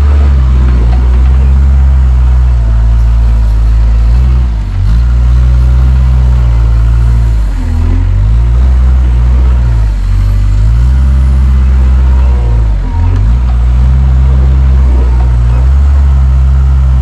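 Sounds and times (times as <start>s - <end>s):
wheel loader diesel engine: 0.0s - 17.0s.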